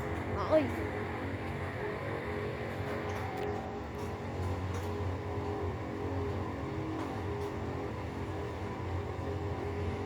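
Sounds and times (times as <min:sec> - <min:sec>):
freight train low rumble: 0:00.0 - 0:10.0.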